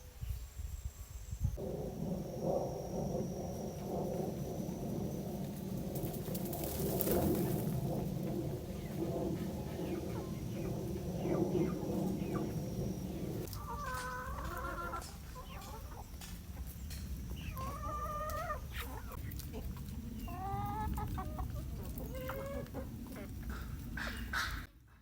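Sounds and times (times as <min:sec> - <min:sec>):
steady low rumble: 0:01.3 - 0:24.9
chickens clucking: 0:04.6 - 0:24.7.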